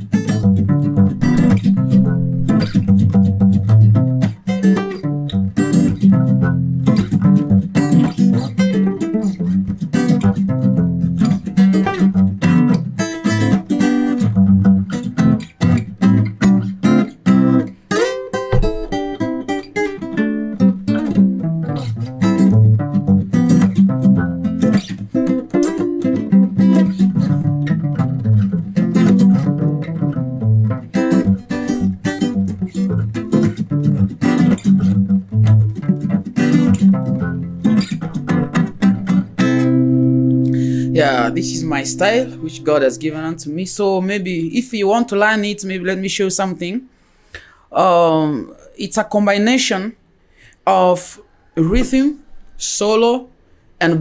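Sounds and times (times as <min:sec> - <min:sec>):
solo guitar playing: 0:00.0 - 0:46.7.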